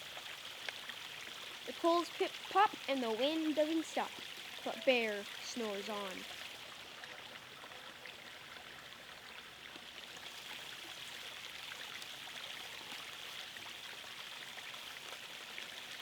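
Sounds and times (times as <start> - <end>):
faint rushing water: 0.0 - 16.0.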